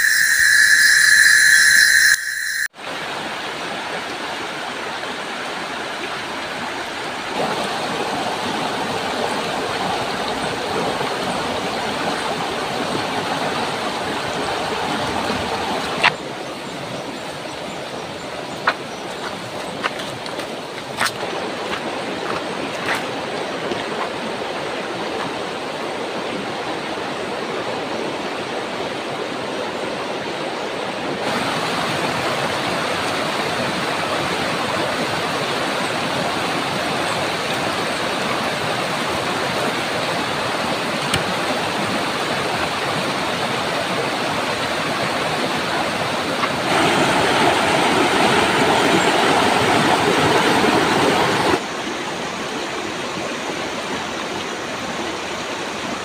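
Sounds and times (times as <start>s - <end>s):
river running over stones: 2.8s - 56.0s.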